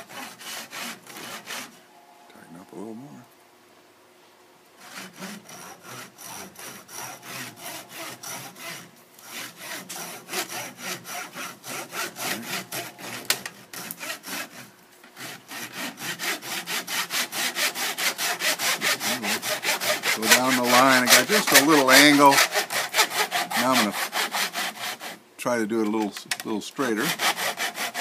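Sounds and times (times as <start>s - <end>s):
hand saw cutting wood: 0.0s - 1.8s, 4.8s - 25.2s, 26.8s - 28.0s.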